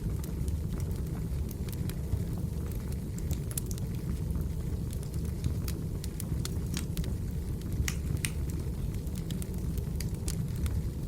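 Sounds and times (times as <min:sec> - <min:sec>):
firewood crackling and popping: 0:00.0 - 0:11.0
low rumble of flames: 0:00.0 - 0:11.0.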